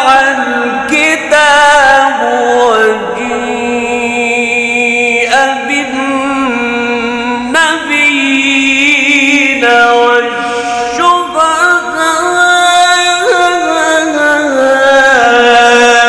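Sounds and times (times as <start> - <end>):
man chanting melodic recitation: 0.0 - 16.0.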